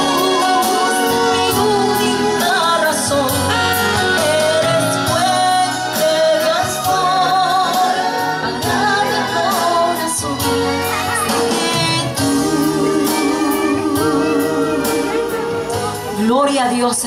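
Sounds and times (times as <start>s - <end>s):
instrumental accompaniment with bass: 0.0s - 17.0s
woman singing with vibrato: 0.0s - 17.0s.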